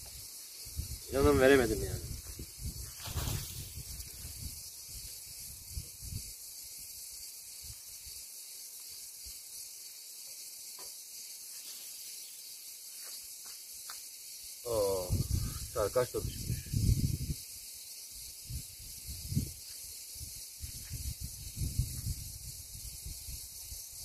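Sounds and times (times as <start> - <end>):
steady high hiss: 0.0 - 24.0.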